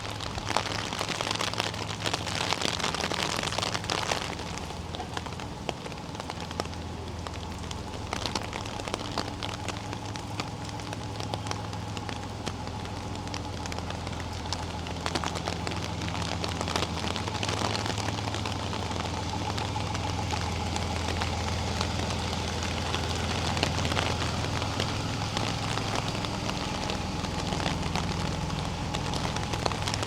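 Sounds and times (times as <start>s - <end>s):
low hum: 0.0s - 30.0s
rain on hard surfaces: 0.0s - 30.0s.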